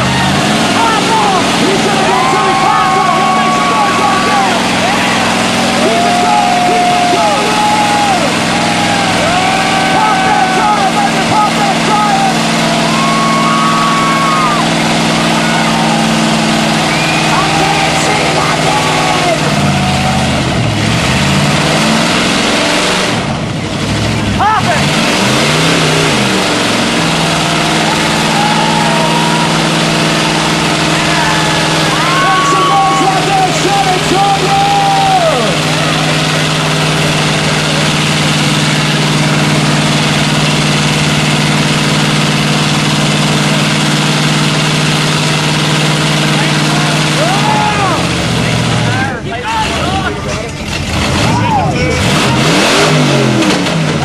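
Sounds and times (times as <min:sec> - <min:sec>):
vehicle engine running hard: 0:00.0 - 0:54.0.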